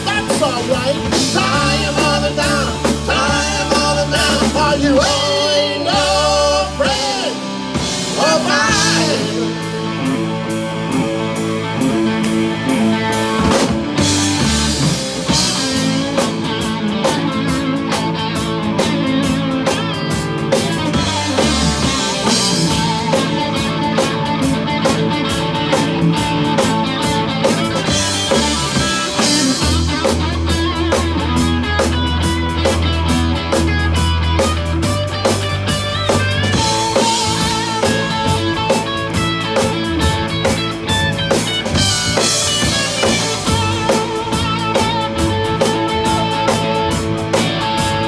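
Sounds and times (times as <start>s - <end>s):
rock band playing: 0.0s - 48.0s.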